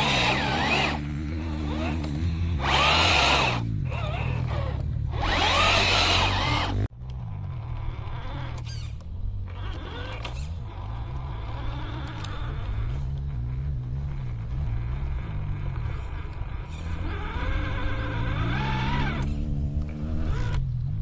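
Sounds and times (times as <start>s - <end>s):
rc car motor whining: 0.0s - 20.9s.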